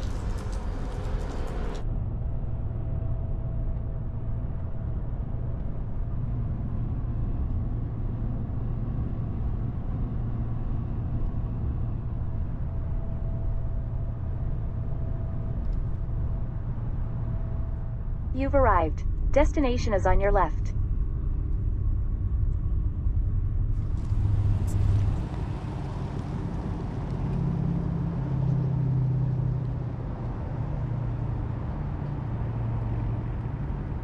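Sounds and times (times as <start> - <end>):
truck engine and road noise: 0.0 - 20.5, 23.6 - 34.0.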